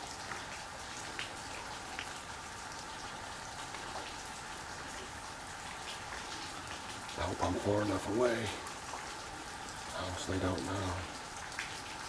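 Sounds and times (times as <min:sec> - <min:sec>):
light rain hissing: 0:00.0 - 0:12.0
raindrop ticks: 0:00.0 - 0:12.0.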